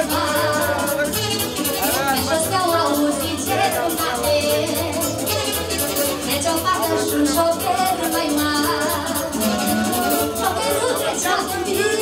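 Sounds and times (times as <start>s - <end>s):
music with fast beat: 0.0s - 12.0s.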